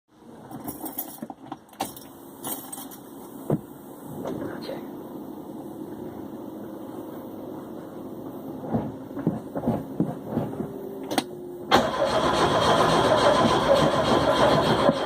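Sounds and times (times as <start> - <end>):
loud steady mechanical noise: 0.1 - 15.0.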